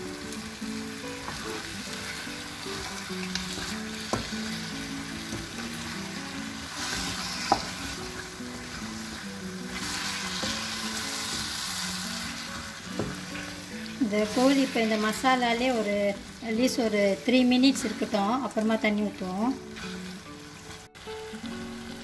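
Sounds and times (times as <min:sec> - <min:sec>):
chicken sizzling in a frying pan: 0:00.0 - 0:22.0
soft background music: 0:00.0 - 0:22.0.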